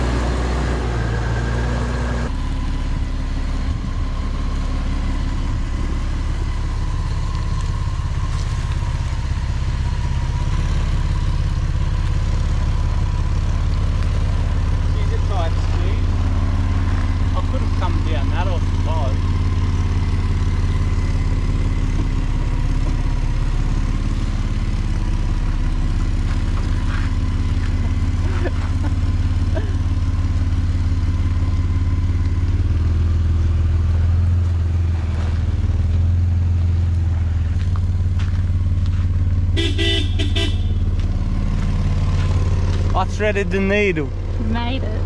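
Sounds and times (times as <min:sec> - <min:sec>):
engine running at low revs: 0:00.0 - 0:45.0.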